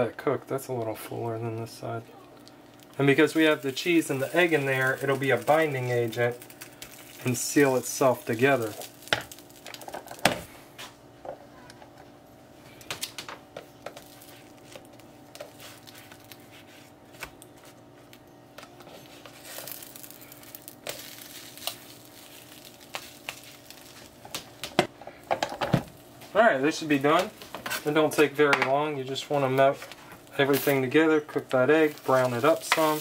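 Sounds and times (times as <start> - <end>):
food crackling: 0.0 - 12.1, 12.7 - 33.0
steady low hum: 0.0 - 33.0.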